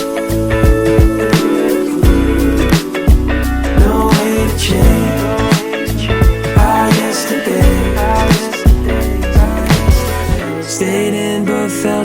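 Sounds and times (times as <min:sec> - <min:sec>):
pop song with drums and guitar: 0:00.0 - 0:12.0.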